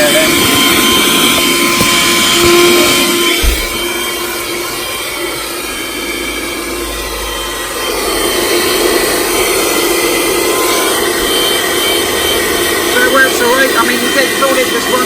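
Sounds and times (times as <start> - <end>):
handheld vacuum cleaner running: 0.0 - 15.0.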